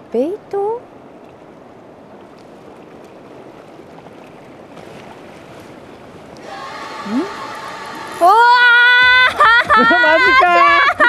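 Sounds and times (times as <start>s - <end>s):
sea water washing on rocks: 0.9s - 11.0s.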